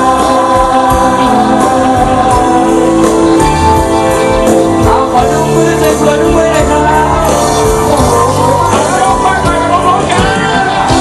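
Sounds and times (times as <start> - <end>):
men singing into microphones: 0.0 - 3.9, 4.6 - 11.0
live pop band: 0.0 - 11.0
steady drum beat: 0.0 - 11.0.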